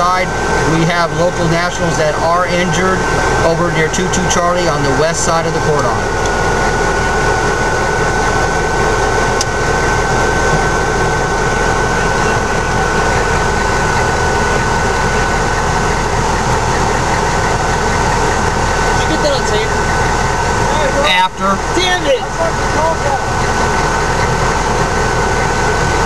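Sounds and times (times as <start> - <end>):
thin high whine: 0.0 - 26.0
vehicle engine idling: 0.0 - 26.0.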